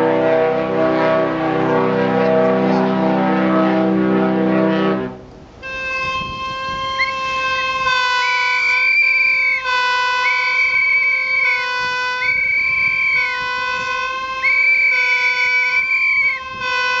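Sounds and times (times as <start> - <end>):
ship horns sounding a chord: 0.0 - 17.0.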